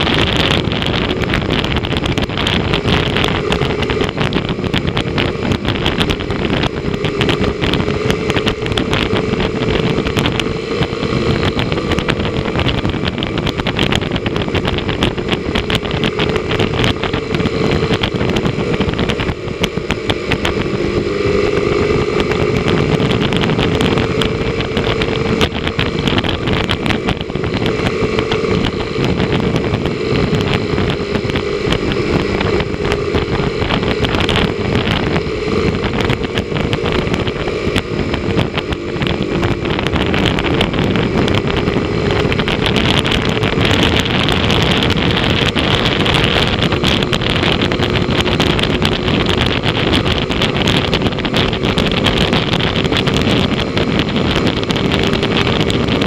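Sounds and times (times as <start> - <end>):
motorcycle engine cruising: 0.0 - 56.0
wind buffeting microphone: 0.0 - 56.0.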